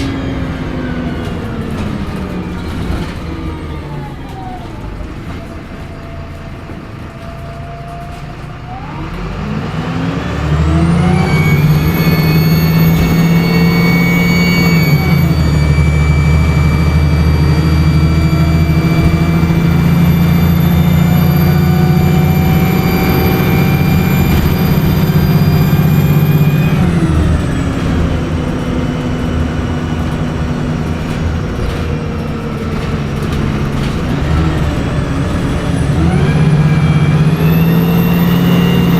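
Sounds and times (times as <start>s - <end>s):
bus diesel engine under load: 0.0s - 38.9s
turbocharger whine: 0.0s - 38.9s.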